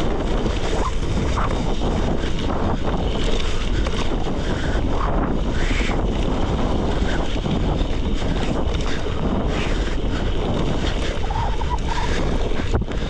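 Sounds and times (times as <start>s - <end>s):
bike tyres rolling on dirt road: 0.0s - 13.0s
wind buffeting microphone: 0.0s - 13.0s.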